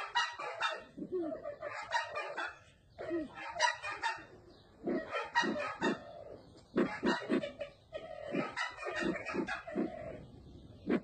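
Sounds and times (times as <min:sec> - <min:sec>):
harsh bird calls: 0:00.0 - 0:11.0.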